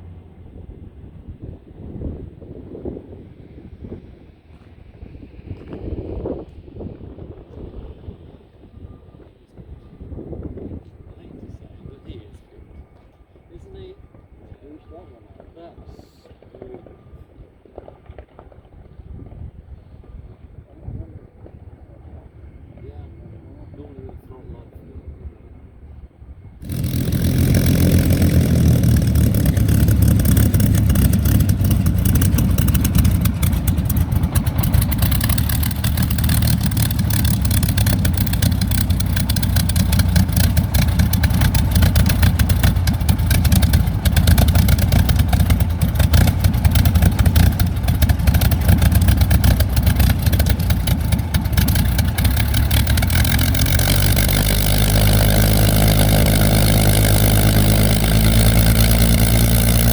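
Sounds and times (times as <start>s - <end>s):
aircraft engine rumbling and crackling: 0.0s - 59.9s.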